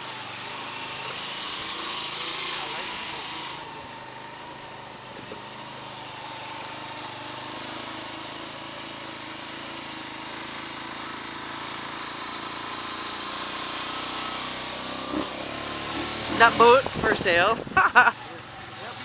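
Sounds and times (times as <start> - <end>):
small motorbike engine running: 0.0 - 19.0.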